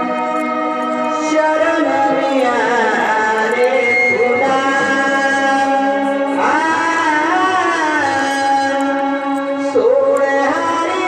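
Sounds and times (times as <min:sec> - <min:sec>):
held instrumental accompaniment: 0:00.0 - 0:11.0
person singing folk song: 0:00.0 - 0:11.0.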